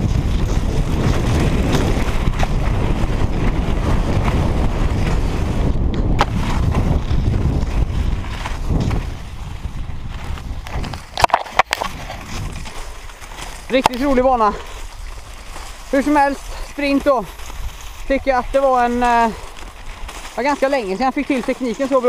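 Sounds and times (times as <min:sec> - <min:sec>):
skis scraping over snow: 0:00.0 - 0:22.0
wind buffeting microphone: 0:00.0 - 0:22.0.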